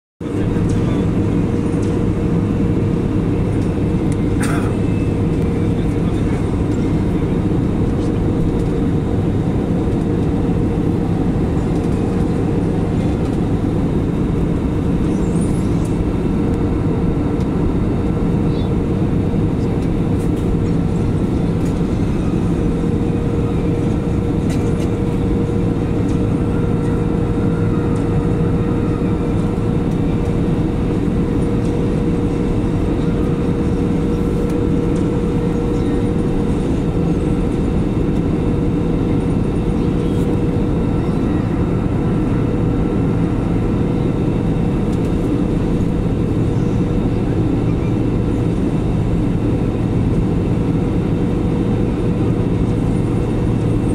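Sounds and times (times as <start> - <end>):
jet engine and airflow drone: 0.2 - 53.9
mid-pitched hum: 0.2 - 53.9.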